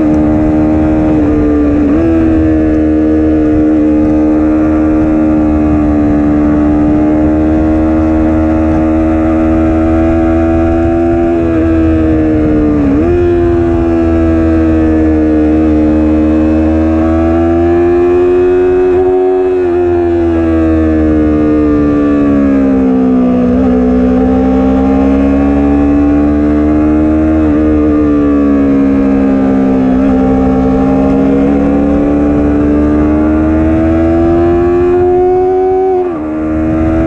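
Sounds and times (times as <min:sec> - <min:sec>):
motorcycle engine at high revs: 0:00.0 - 0:37.0.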